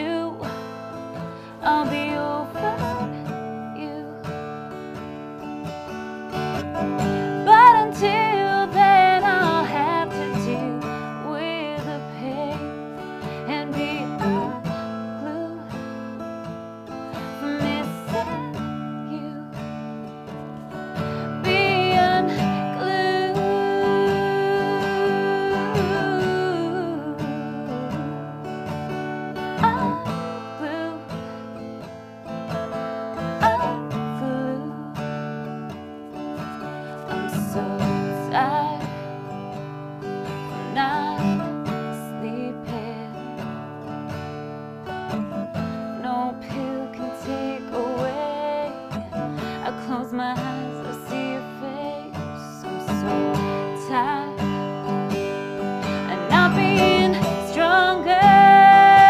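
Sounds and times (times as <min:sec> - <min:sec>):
woman singing: 0:00.0 - 0:44.4, 0:45.0 - 0:59.0
strummed acoustic guitar: 0:00.0 - 0:59.0.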